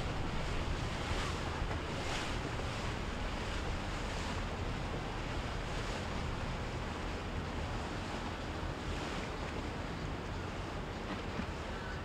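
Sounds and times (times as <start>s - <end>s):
waves washing: 0.0s - 12.0s
wind: 0.0s - 12.0s.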